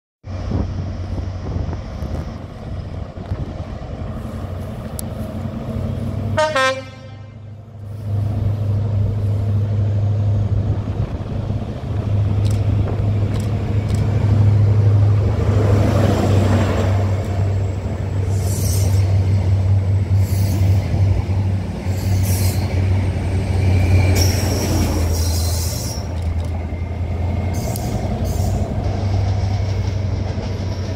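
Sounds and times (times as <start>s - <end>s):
diesel train engines droning: 0.2s - 30.9s.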